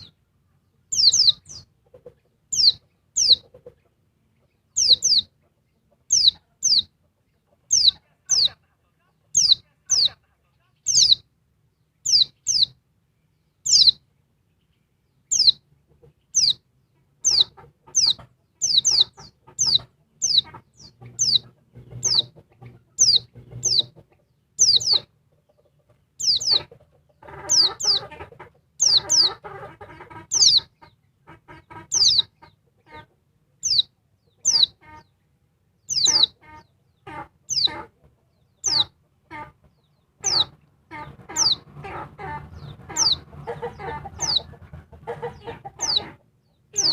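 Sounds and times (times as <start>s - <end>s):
bird low chattering: 0.8s - 11.2s, 12.0s - 12.8s, 13.6s - 14.0s, 15.2s - 35.2s, 35.8s - 46.9s.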